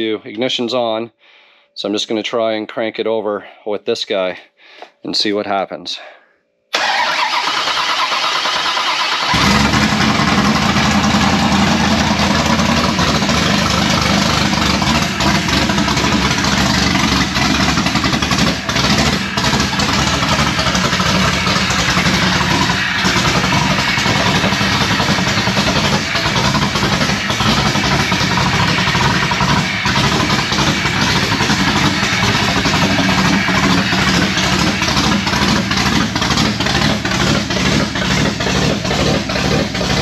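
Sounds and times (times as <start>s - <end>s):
loud car engine cranking and running: 6.8s - 40.0s.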